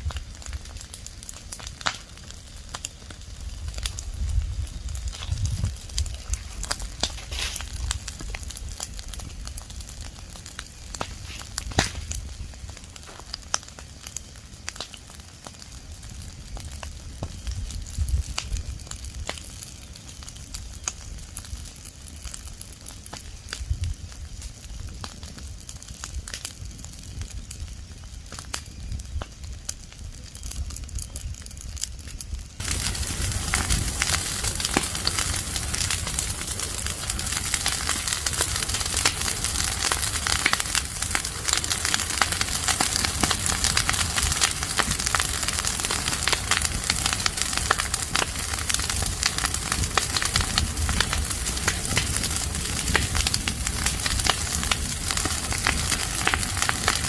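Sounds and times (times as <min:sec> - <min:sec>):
leaf fire crackling and popping: 0:00.0 - 0:57.0.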